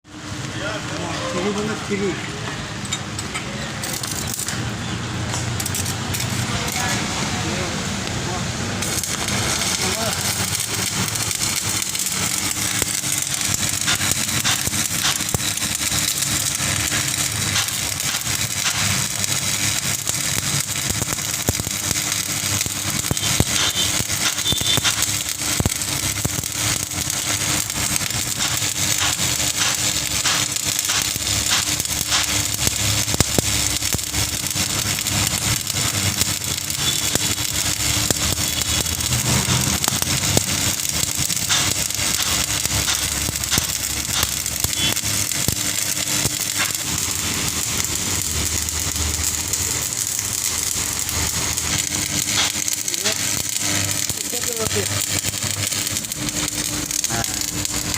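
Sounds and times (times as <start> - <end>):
welding arc crackling: 0.0 - 57.9.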